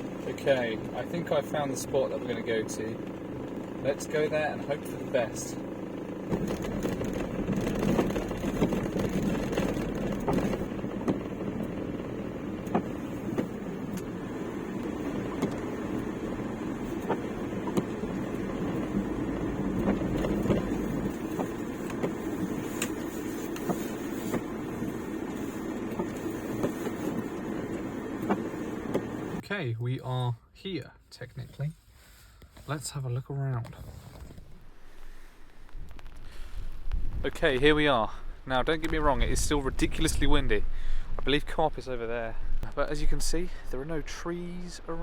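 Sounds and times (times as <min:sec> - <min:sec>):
van engine and road noise: 0:00.0 - 0:45.0.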